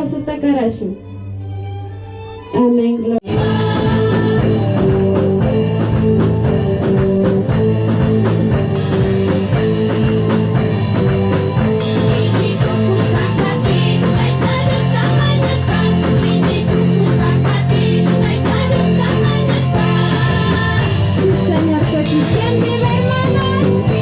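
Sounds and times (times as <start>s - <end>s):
rock music with drums and guitar: 3.3s - 24.0s.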